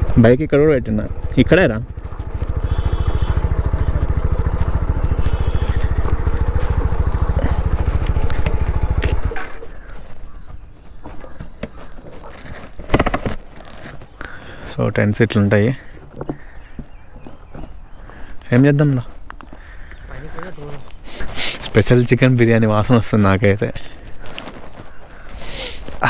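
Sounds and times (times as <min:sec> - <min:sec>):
motorcycle engine at low revs: 0:00.0 - 0:26.0.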